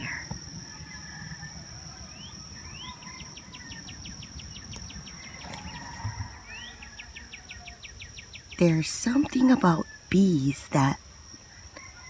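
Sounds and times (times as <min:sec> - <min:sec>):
high-pitched insect drone: 0:00.0 - 0:12.0
songbird singing: 0:00.0 - 0:12.0.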